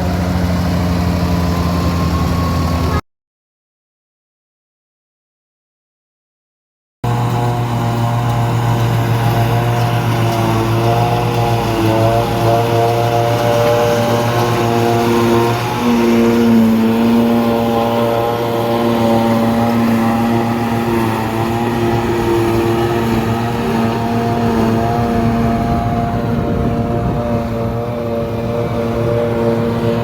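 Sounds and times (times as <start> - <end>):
tractor engine running: 0.0 - 3.0, 7.0 - 30.0.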